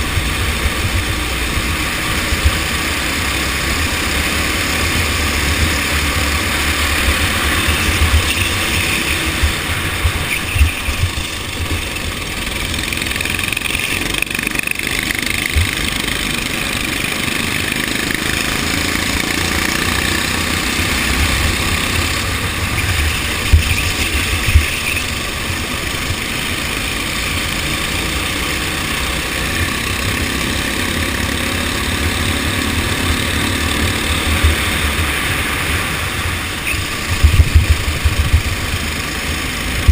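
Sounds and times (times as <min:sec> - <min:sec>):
go-kart engines running: 0:00.0 - 0:39.9.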